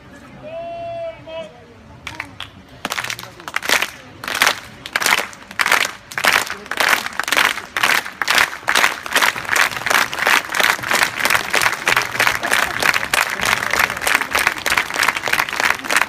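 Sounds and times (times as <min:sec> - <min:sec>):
crowd clapping in rhythm: 0:02.1 - 0:16.0.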